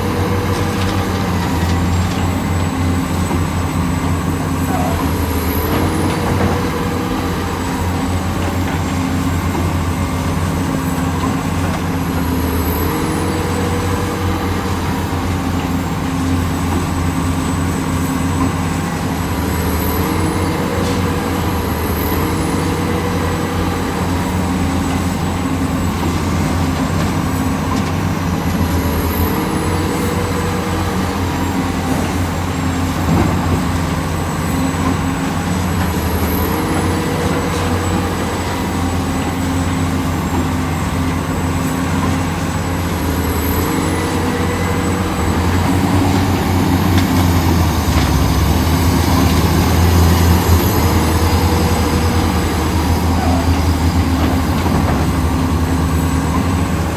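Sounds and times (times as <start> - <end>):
excavator diesel engine under load: 0.0 - 56.9.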